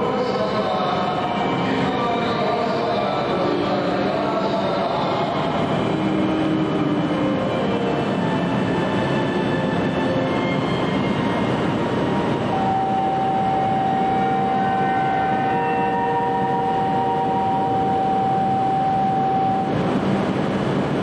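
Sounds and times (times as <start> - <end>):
steady high tone: 0.0 - 21.0
train equipment humming: 0.0 - 21.0.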